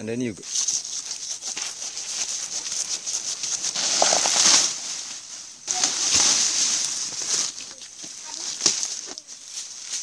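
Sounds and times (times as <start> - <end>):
dry leaves rustling: 0.4 - 10.0.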